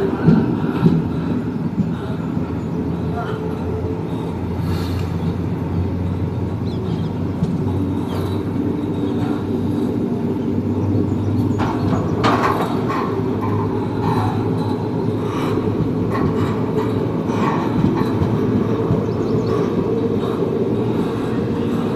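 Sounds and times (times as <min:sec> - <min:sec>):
train rumbling on rails: 0:00.0 - 0:21.9.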